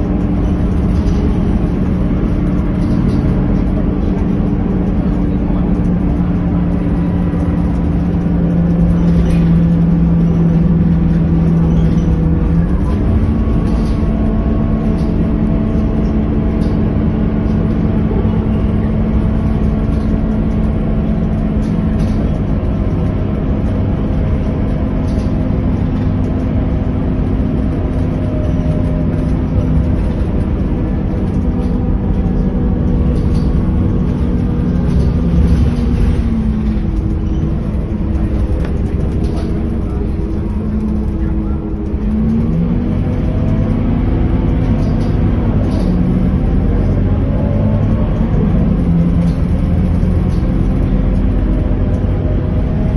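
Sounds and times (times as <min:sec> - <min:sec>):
bus diesel engine running: 0:00.0 - 0:52.9
road and body noise: 0:00.0 - 0:52.9.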